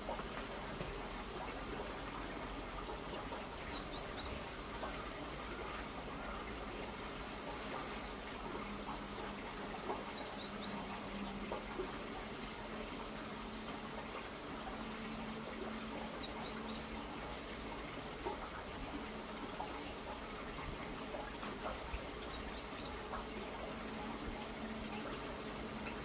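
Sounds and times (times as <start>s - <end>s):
running water hiss: 0.0s - 26.0s.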